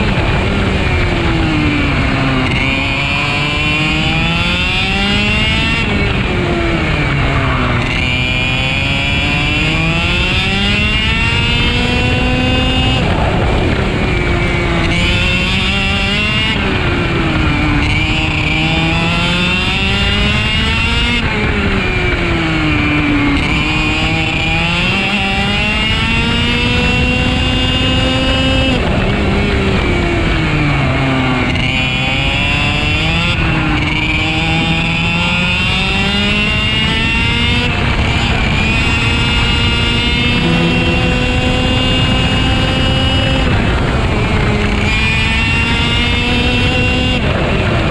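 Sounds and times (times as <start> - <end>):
two-stroke kart engine revving: 0.0 - 47.9.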